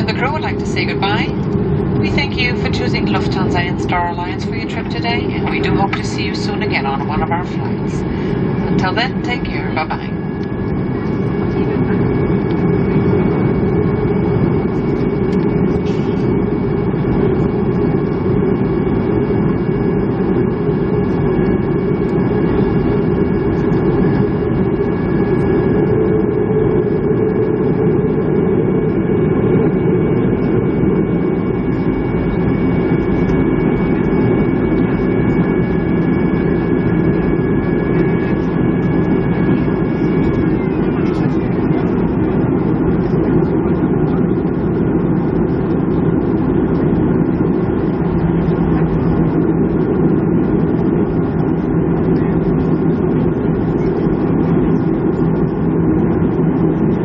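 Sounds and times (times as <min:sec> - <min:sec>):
jet engines idling rumble: 0:00.0 - 0:57.0.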